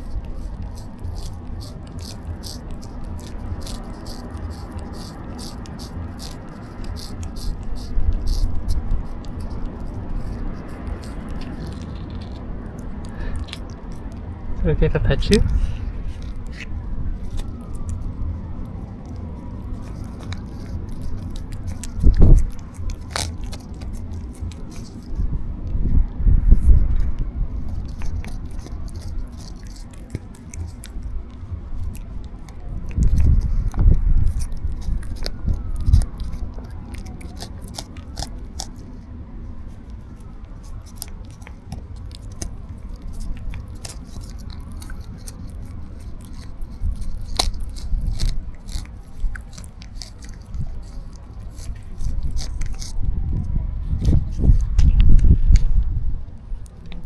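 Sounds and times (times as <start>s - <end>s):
cat chewing and licking: 0.0s - 57.0s
low rumbles: 0.0s - 57.0s.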